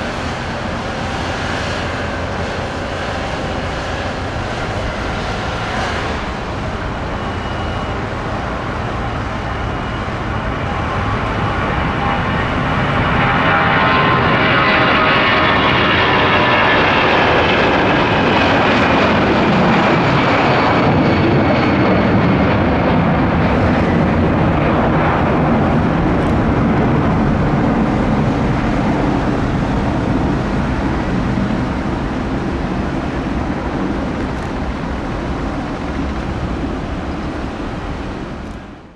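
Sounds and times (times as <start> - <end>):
jet engine whine falling in pitch: 0.0 - 38.9
jet engines roaring at takeoff: 0.0 - 38.9.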